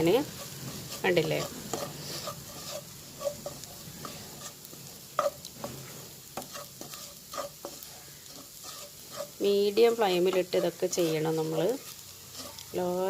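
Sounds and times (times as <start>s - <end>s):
light steady sizzle: 0.0s - 13.0s
spatula scraping frying pan: 0.0s - 13.0s.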